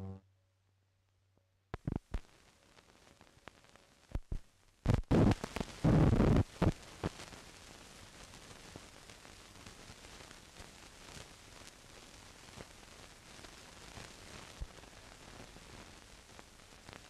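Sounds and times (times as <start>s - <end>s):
film soundtrack hiss: 1.0s - 17.0s
loud crackling bursts: 1.8s - 17.0s.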